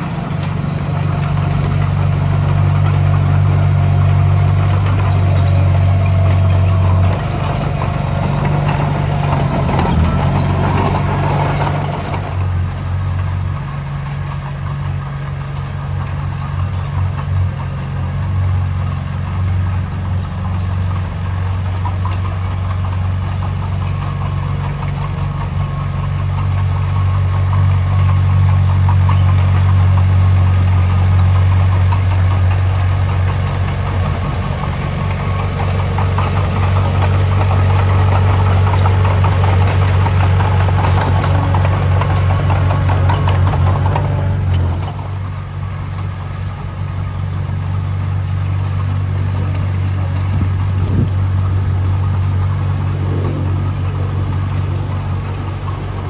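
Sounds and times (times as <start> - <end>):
heavy machinery engine humming: 0.0 - 56.0
mid-pitched mechanical noise: 0.0 - 56.0.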